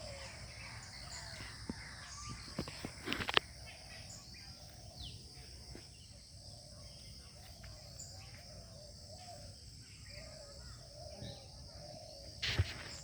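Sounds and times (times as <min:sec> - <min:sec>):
crickets droning: 0:00.0 - 0:13.0
faint chirps: 0:00.0 - 0:13.0.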